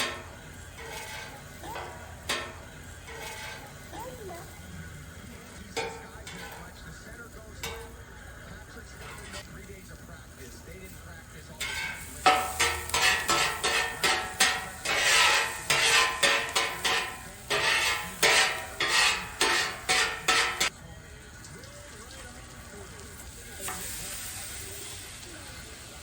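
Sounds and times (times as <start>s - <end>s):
utensil scraping frying pan: 0.0s - 20.8s, 23.0s - 26.0s
food sizzling: 0.0s - 26.0s.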